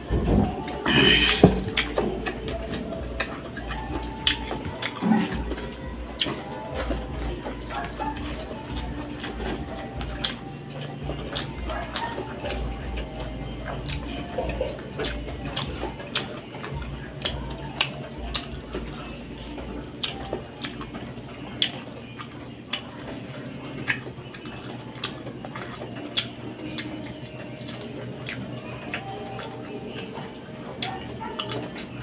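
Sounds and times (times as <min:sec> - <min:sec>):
man chewing with mouth smacks: 0:00.0 - 0:32.0.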